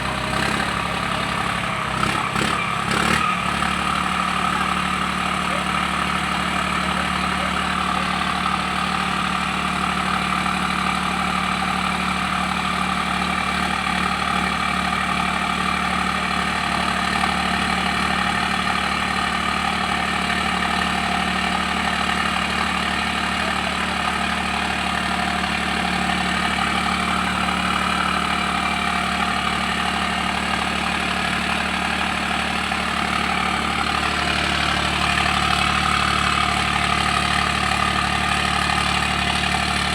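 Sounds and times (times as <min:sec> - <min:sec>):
bulldozer diesel engine idling: 0:00.0 - 0:39.9.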